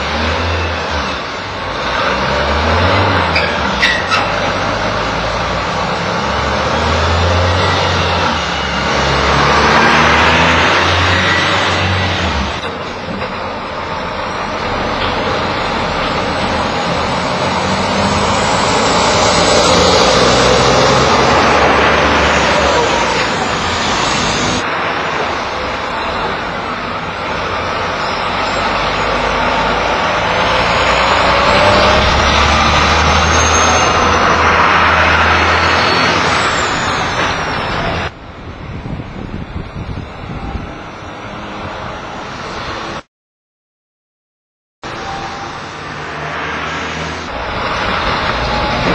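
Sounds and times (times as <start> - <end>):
heavy trucks driving: 0.0 - 43.1, 44.8 - 48.9.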